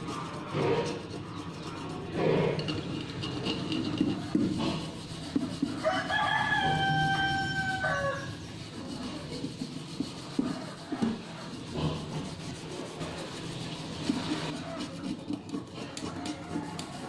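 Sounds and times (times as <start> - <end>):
steel wool scouring a pot: 0.0 - 17.0.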